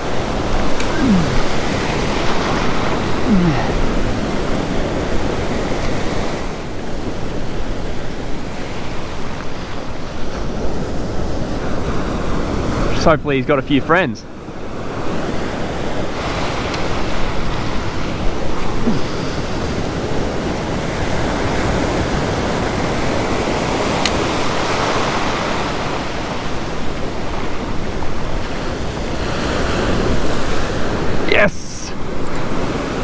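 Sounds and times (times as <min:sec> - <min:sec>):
waves breaking on a beach: 0:00.0 - 0:33.0.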